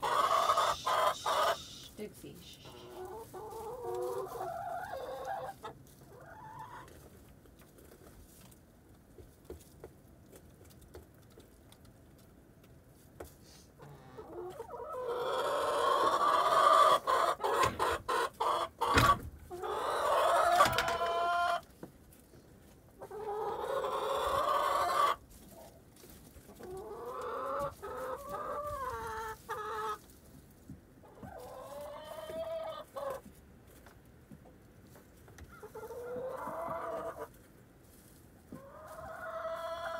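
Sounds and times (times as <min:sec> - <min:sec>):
hens clucking: 0:00.0 - 0:39.9.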